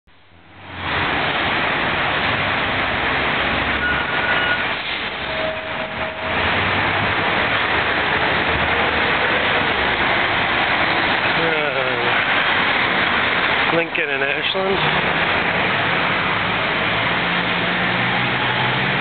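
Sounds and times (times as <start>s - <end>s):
city traffic roar: 0.1s - 19.0s.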